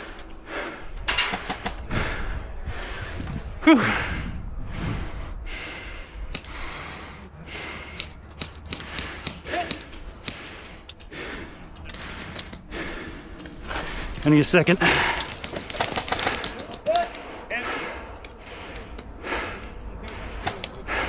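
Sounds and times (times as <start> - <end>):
man breathing hard and gasping: 0.0 - 21.0.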